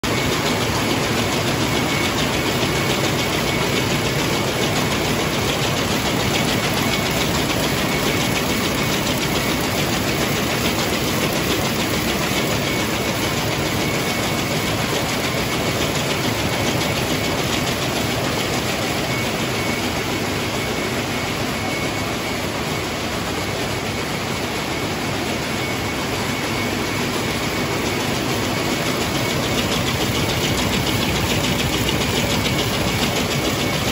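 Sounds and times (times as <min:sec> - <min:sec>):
looms mechanical clatter: 0:00.0 - 0:33.9.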